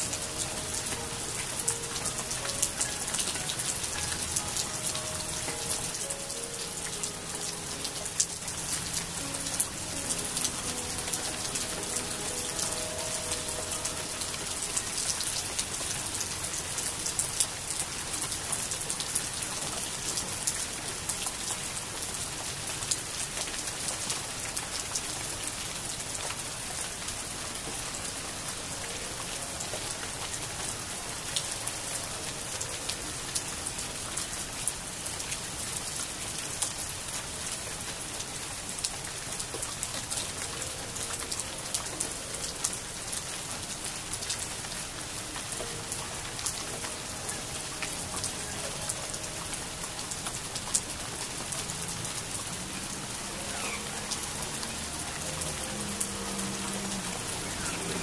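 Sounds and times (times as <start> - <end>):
rain on plants and wooden bench: 0.0 - 58.0.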